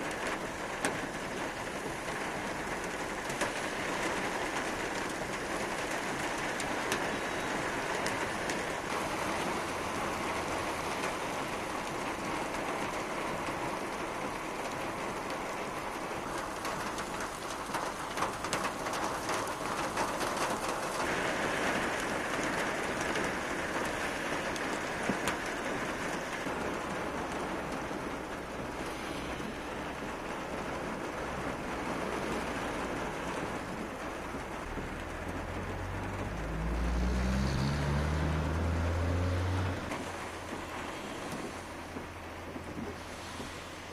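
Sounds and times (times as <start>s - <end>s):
heavy rain on road: 0.0s - 43.9s
traffic hissing on wet road: 0.0s - 43.9s.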